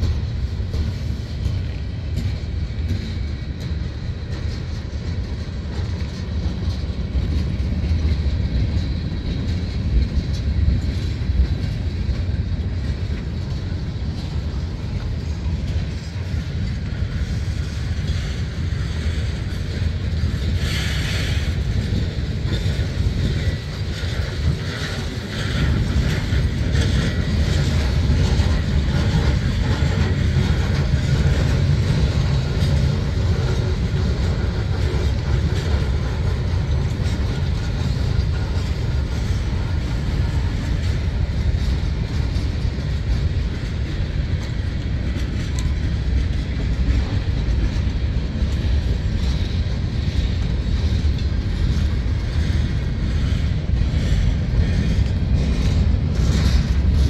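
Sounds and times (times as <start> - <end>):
freight train rolling past: 0.0 - 57.0
wheel clatter over track: 0.0 - 57.0.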